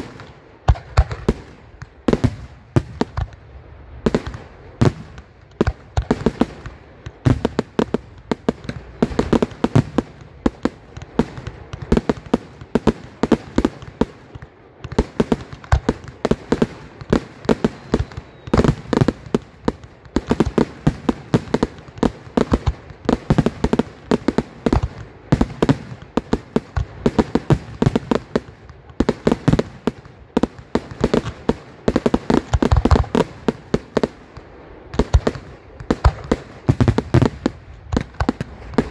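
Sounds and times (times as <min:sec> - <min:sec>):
fireworks shells launching and bursting: 0:00.0 - 0:03.4, 0:04.1 - 0:38.9.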